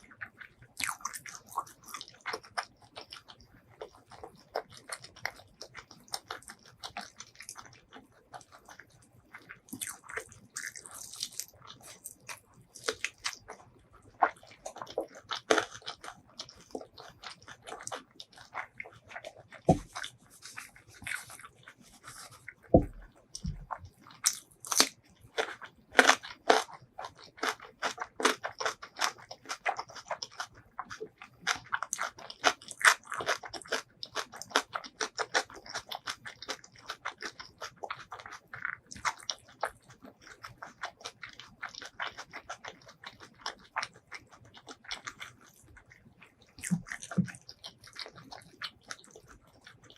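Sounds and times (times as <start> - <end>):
crunching and chewing fried chicken: 0.0 - 49.9.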